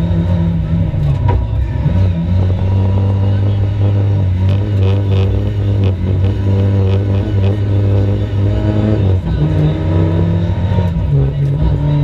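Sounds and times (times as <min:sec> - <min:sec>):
racing car engine at high revs: 0:00.0 - 0:12.0.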